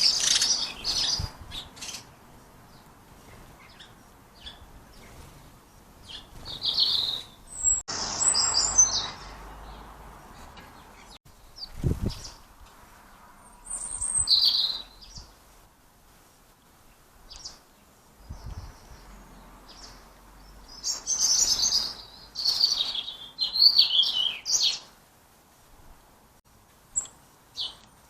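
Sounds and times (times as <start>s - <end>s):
small birds chirping: 0.0s - 25.0s, 26.9s - 28.0s.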